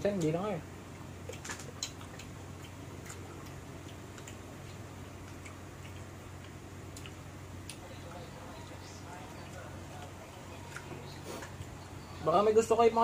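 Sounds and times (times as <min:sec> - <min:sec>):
low steady hum: 0:00.0 - 0:13.0
chewing and mouth sounds: 0:00.9 - 0:11.9.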